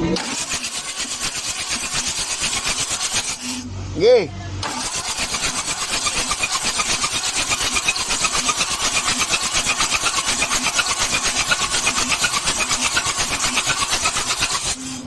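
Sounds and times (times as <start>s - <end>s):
diesel engine clattering: 0.0s - 15.0s.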